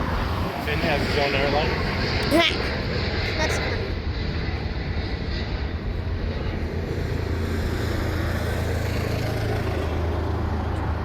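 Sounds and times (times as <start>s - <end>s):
broad wash of noise: 0.0s - 11.0s
low vehicle rumble: 0.0s - 11.0s.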